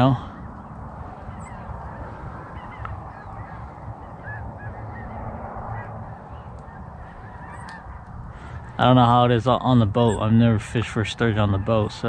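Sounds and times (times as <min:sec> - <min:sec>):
distant geese honking: 0:00.0 - 0:12.0
steady background noise: 0:00.0 - 0:12.0.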